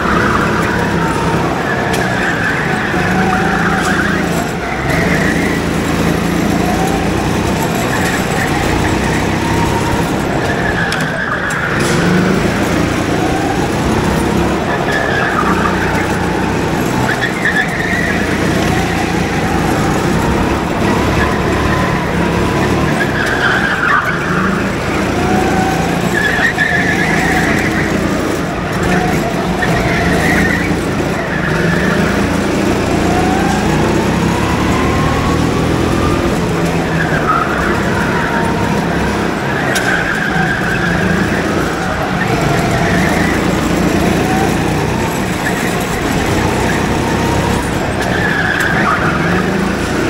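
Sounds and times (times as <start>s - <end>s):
go-kart engines: 0.0s - 50.0s.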